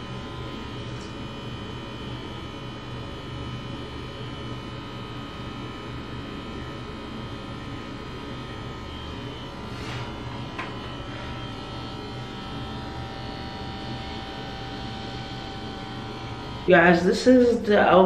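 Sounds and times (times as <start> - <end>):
electric hair clippers buzzing: 0.0 - 18.0.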